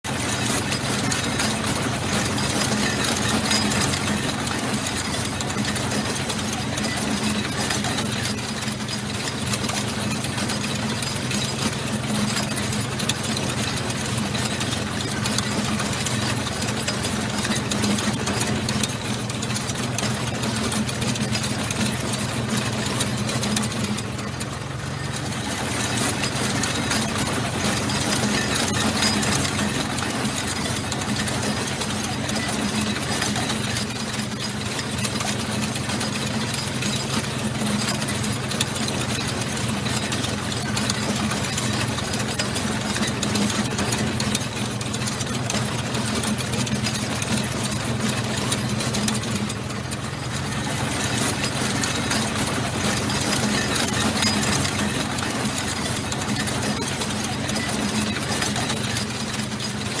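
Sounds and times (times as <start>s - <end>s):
heavy tank engine running: 0.0s - 60.0s
tank tracks clattering: 0.1s - 60.0s.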